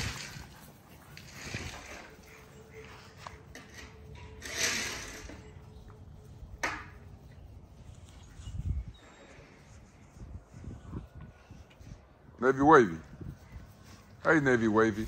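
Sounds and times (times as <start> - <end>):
dogs scuffling on grass: 0.0 - 15.0.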